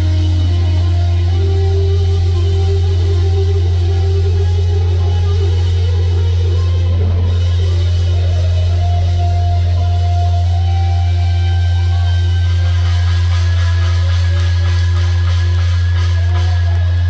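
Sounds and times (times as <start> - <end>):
deep low drone: 0.0 - 17.0
electric guitar sustained notes: 0.0 - 17.0.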